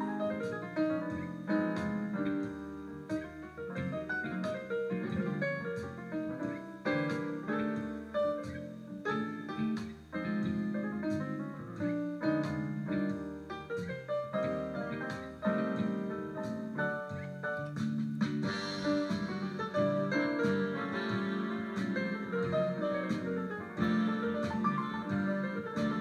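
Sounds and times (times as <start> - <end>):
piano playing: 0.0 - 26.0.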